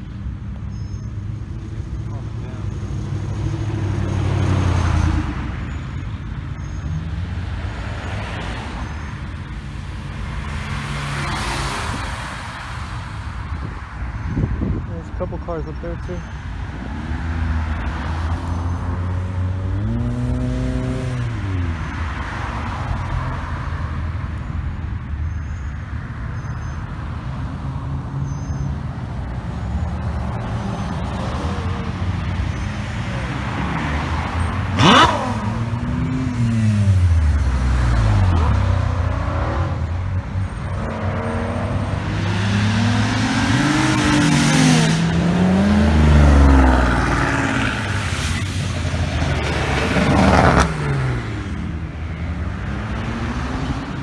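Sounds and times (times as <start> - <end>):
car engines revving past: 0.0 - 54.0.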